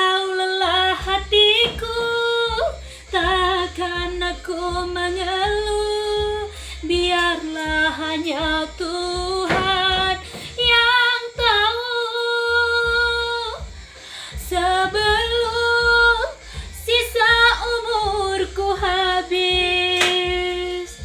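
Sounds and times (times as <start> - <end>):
woman singing a ballad: 0.0 - 21.0.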